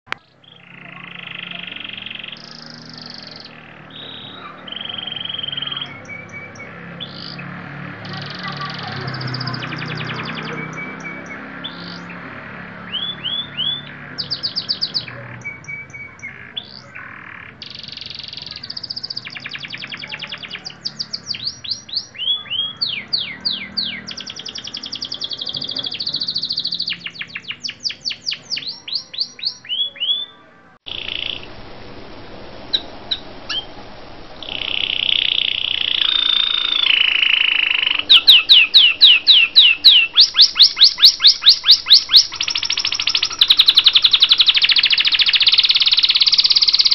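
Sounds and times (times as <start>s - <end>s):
songbirds singing: 0.1s - 31.6s, 32.6s - 46.9s.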